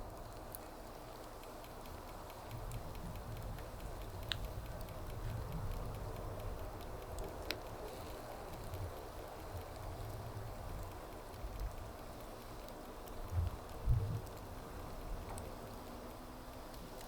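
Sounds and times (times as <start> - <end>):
burning wood popping: 0.0 - 17.0
low rushing of fire: 0.0 - 17.0
wood fire crackling: 0.0 - 17.0.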